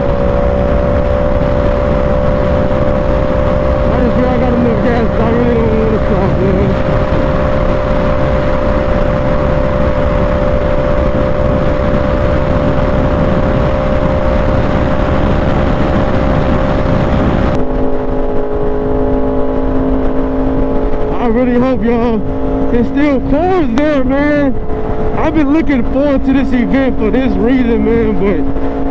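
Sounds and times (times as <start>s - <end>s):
motorcycle engine cruising: 0.0s - 28.9s
wind rush on microphone: 0.0s - 28.9s.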